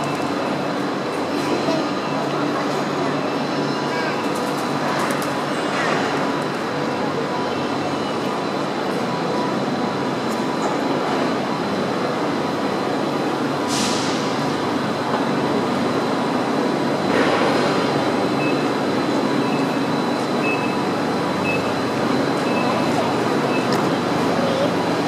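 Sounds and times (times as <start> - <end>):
electric trains humming: 0.0 - 25.0.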